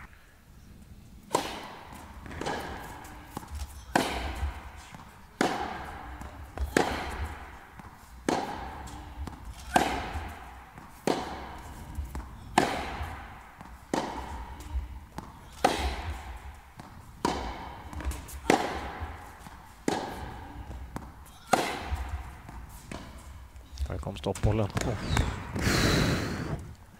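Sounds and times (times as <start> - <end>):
racket hitting tennis ball: 1.2 - 23.8
tennis ball bouncing: 1.2 - 25.6.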